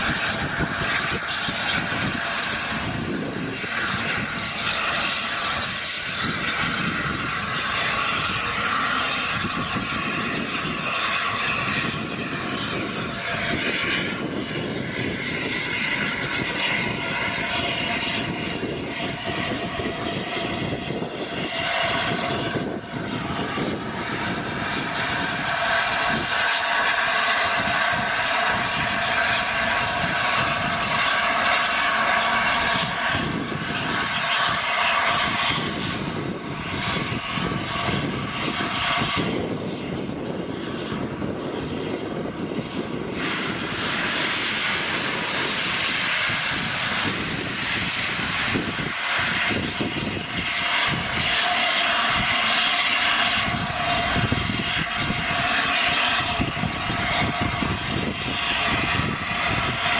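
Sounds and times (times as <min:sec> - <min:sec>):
train running: 0:00.0 - 0:59.9.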